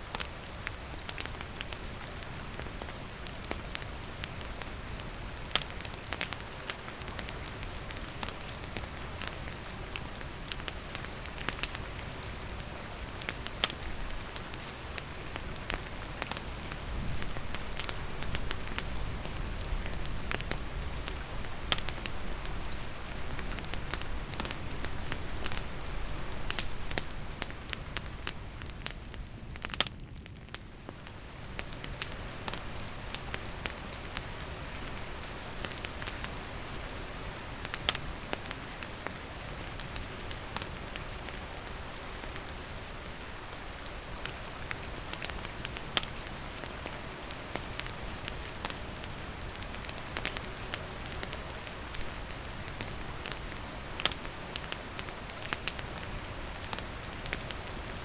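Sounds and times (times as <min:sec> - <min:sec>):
steady rain falling: 0:00.0 - 0:58.0
wood fire crackling: 0:00.0 - 0:58.0.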